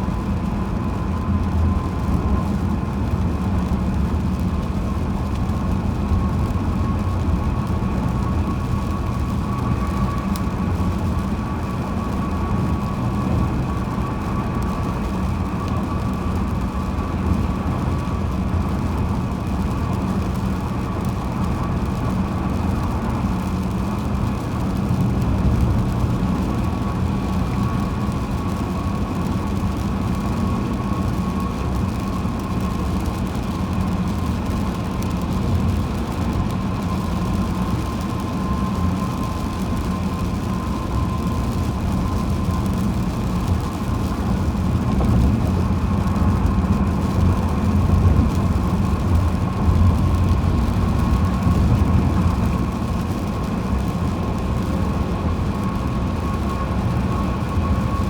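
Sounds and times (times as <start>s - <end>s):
road and engine rumble: 0.0s - 58.0s
thin steady whine: 0.0s - 58.0s.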